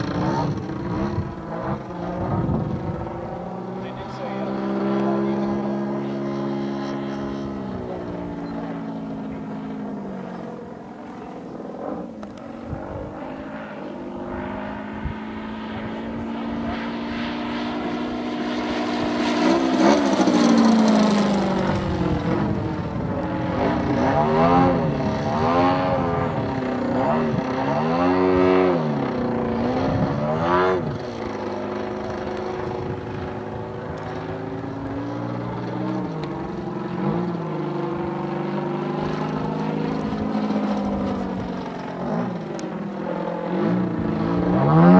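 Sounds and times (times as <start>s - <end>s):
model airplane engine droning: 0.0s - 44.9s.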